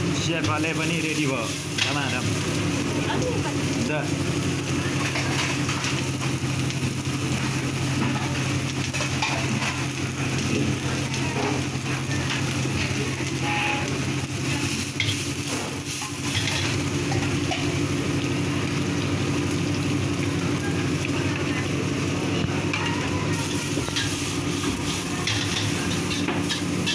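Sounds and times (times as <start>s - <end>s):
food sizzling in hot oil: 0.0s - 26.9s.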